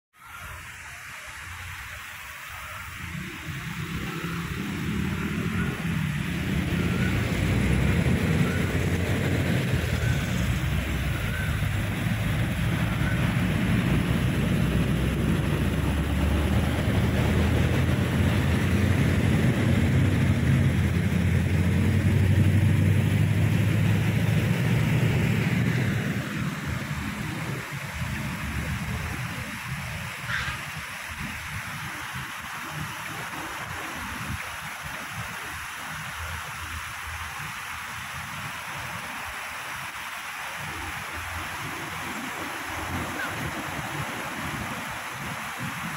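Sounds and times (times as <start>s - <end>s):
water rushing over weir: 0.2s - 45.9s.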